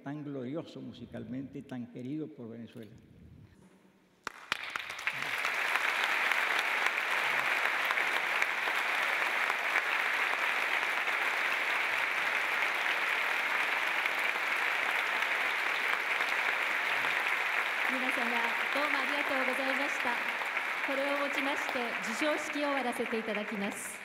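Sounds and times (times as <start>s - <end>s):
audience applauding: 4.2s - 24.0s.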